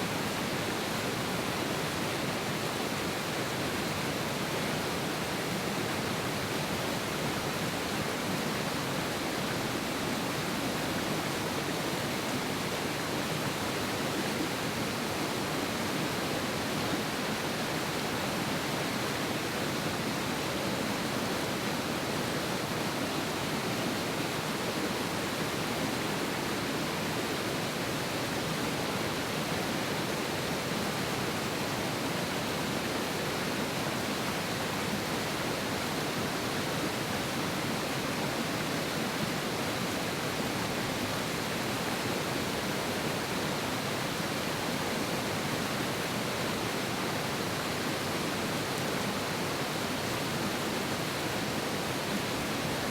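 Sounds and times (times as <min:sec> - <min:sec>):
river rushing over rocks: 0:00.0 - 0:52.9.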